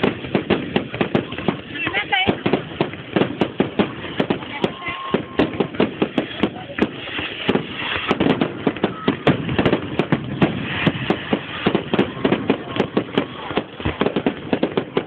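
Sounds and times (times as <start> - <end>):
fireworks bangs and pops: 0.0 - 15.0
fireworks crackling: 0.0 - 15.0.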